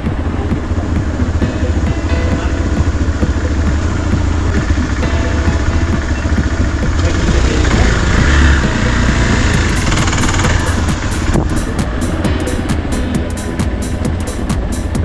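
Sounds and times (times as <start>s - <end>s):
motorcycle engine running: 0.0s - 15.0s
road noise on rough track: 0.0s - 15.0s.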